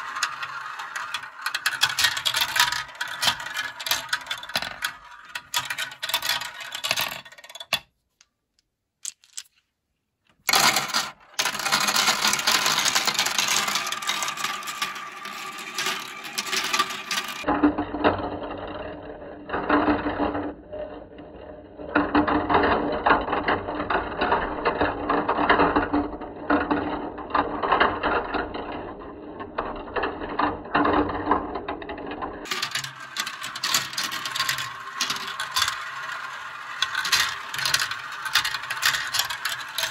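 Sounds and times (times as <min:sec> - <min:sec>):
plastic balls clattering through marble run: 0:00.0 - 0:07.9, 0:09.0 - 0:09.5, 0:10.3 - 0:39.9.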